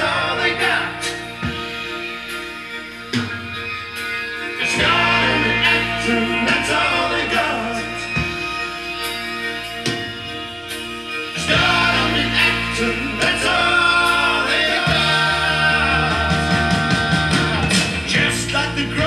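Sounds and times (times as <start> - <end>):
vinyl record song playing: 0.0 - 19.0.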